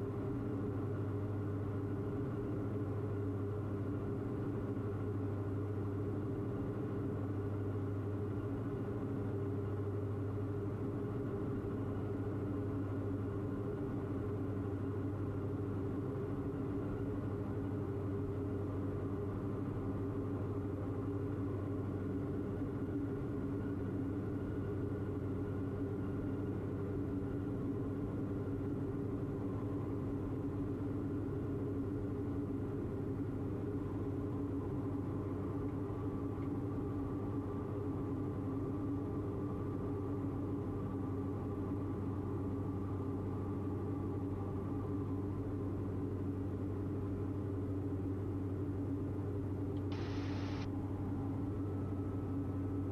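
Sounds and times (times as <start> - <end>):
airplane engines droning: 0.0 - 52.9.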